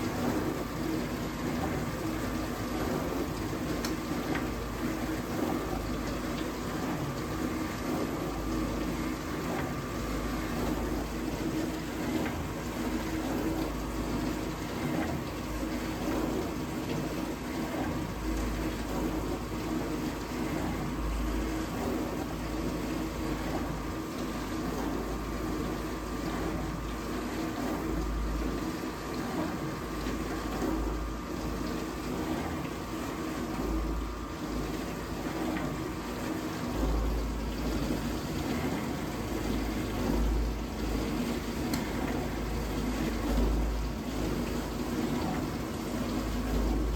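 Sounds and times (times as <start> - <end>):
dishwasher pump motor hum: 0.0 - 46.9
water spraying inside tub: 0.0 - 46.9.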